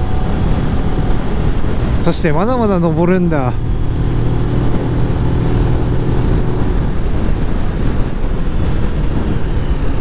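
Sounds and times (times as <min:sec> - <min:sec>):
motorcycle engine running: 0:00.0 - 0:02.2, 0:02.9 - 0:10.0
wind noise on microphone: 0:00.0 - 0:10.0.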